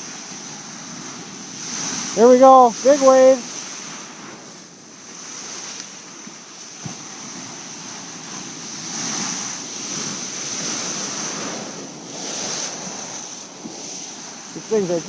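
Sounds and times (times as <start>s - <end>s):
waves crashing: 0.0s - 15.0s
wind buffeting microphone: 0.0s - 15.0s.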